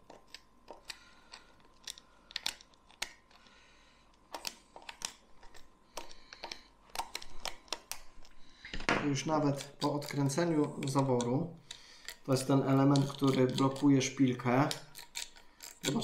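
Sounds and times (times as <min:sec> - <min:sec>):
screwdriver clicking and scraping: 0:00.0 - 0:03.4, 0:04.1 - 0:08.4, 0:09.3 - 0:16.0.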